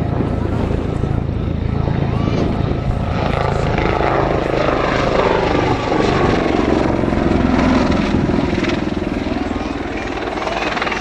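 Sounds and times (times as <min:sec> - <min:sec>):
helicopter rotor blades chopping: 0:00.0 - 0:11.0
turbine engine noise: 0:00.0 - 0:11.0.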